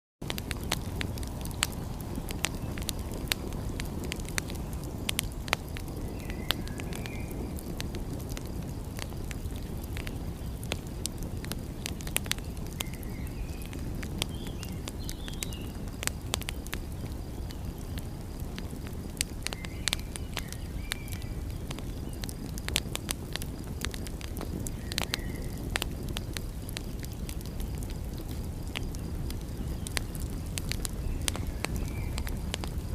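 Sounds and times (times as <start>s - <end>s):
wood fire crackling and popping: 0.2s - 32.9s.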